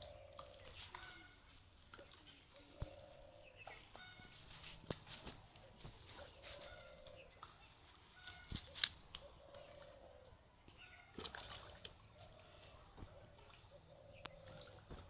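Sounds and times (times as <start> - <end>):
pond water splashing: 0.0 - 10.0, 10.6 - 15.0.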